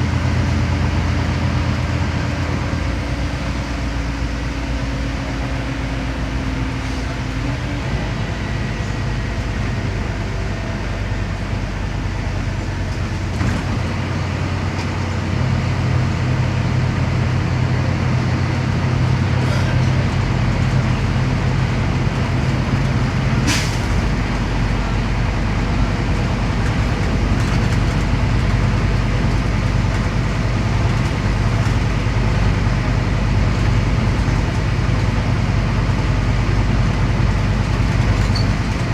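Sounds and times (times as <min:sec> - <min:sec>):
bus diesel engine: 0:00.0 - 0:38.9
road noise: 0:00.0 - 0:38.9.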